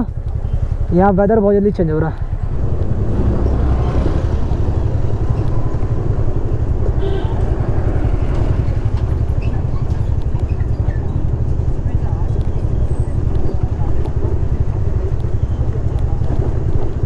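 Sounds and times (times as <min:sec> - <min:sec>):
road and wind noise: 0:00.0 - 0:17.0
scooter engine running: 0:00.0 - 0:17.0.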